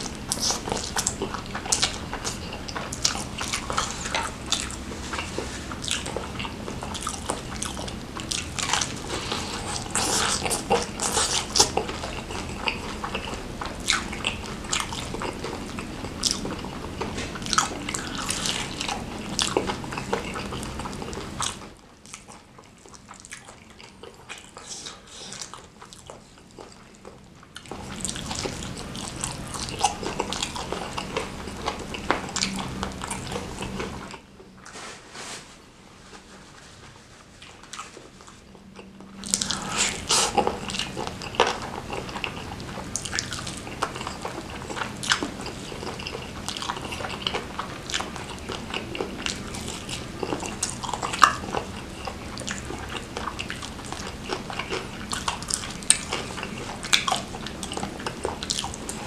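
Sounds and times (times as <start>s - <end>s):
person chewing noodles: 0.0s - 34.8s, 37.3s - 59.0s.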